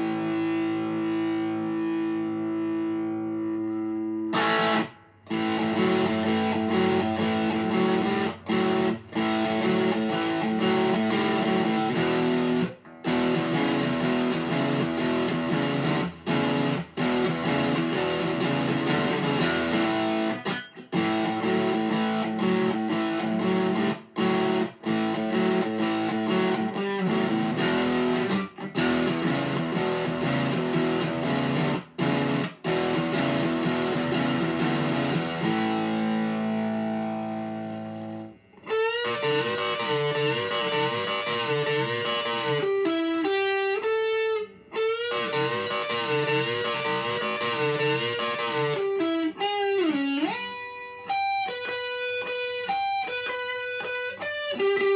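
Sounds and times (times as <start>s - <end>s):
electric guitar chordal riff: 0.0s - 54.9s.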